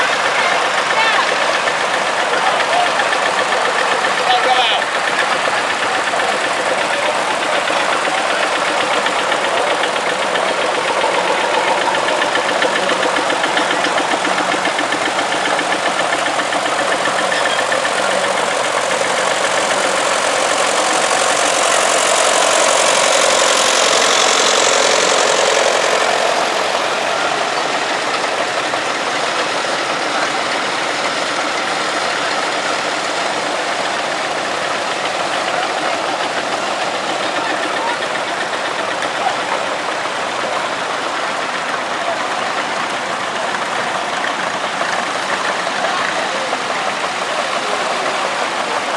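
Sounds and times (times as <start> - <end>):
tractor engines running: 0.0 - 48.9.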